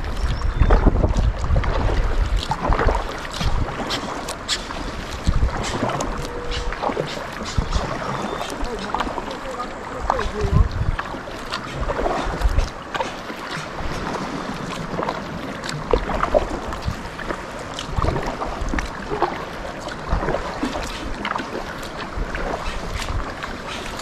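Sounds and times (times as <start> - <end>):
paddle dipping and splashing: 0.0 - 24.0
water drips: 0.0 - 24.0
wind rumble on microphone: 0.0 - 24.0
steady water hiss: 2.0 - 24.0.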